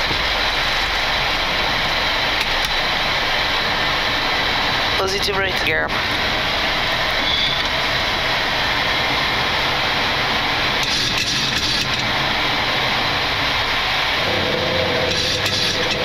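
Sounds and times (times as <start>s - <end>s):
jet engines and airflow rushing: 0.0s - 16.0s.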